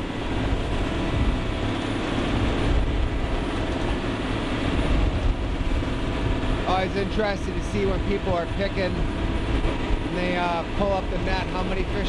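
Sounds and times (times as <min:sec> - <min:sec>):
boat engine rumble with hiss: 0:00.0 - 0:12.0.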